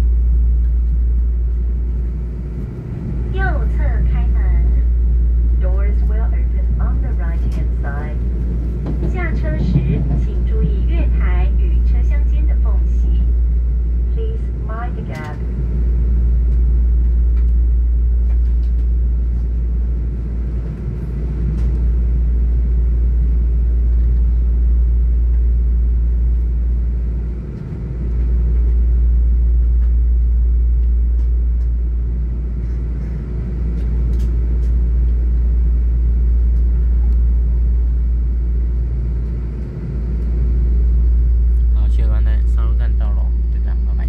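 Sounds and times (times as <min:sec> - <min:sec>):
train carriage rumble: 0:00.0 - 0:44.0.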